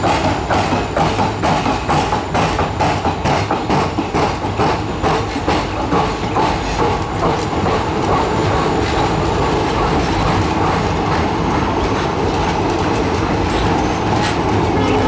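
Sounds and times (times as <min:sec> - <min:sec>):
train rumble: 0:00.0 - 0:15.0
train wheels clacking over rail joints: 0:00.0 - 0:15.0.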